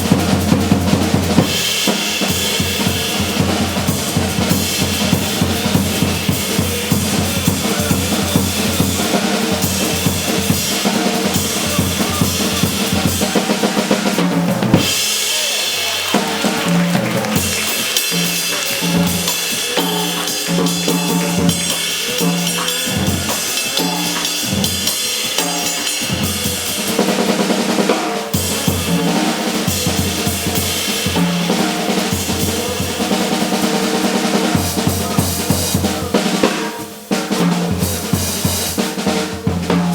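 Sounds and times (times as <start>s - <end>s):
drum kit: 0.0s - 39.9s
small jazz band playing: 0.0s - 39.9s.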